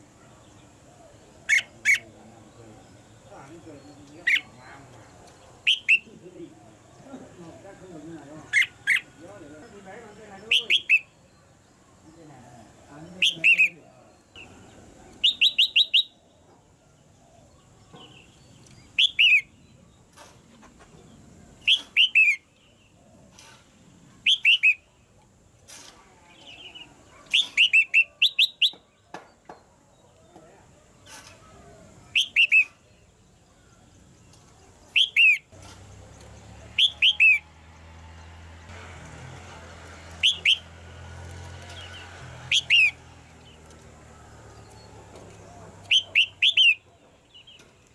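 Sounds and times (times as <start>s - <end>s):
bird chirping: 0.0s - 38.6s, 39.8s - 47.9s.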